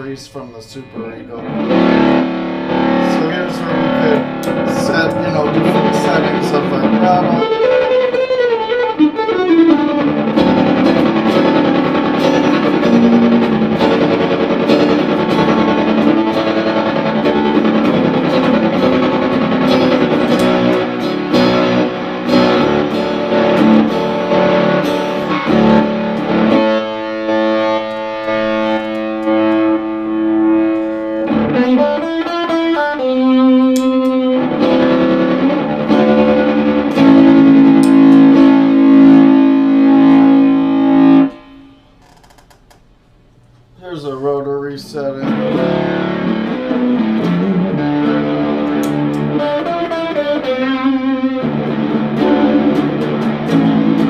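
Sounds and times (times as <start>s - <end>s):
electric guitar with vibrato: 0.0s - 42.6s, 45.1s - 54.0s.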